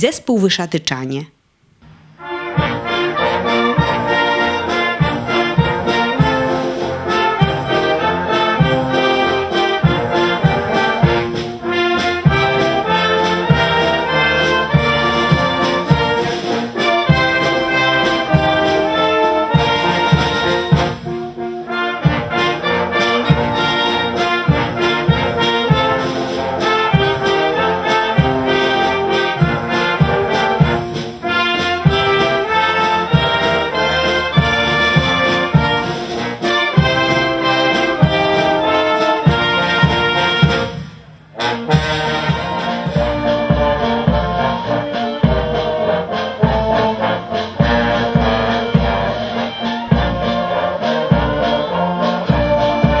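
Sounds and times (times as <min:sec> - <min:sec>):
brass band playing: 0:02.1 - 0:53.0
steady drum beat: 0:02.5 - 0:53.0.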